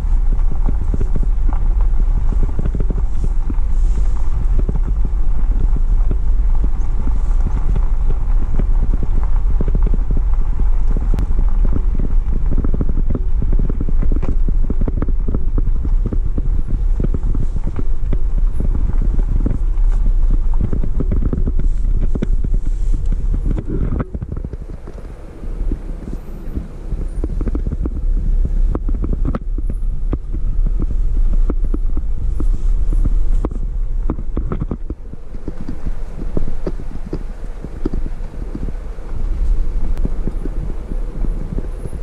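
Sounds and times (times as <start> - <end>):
vehicle rumbling on dirt road: 0.0 - 42.0.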